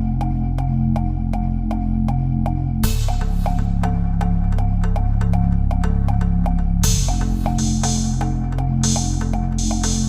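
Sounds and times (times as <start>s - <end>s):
low bass tones: 0.0s - 10.0s.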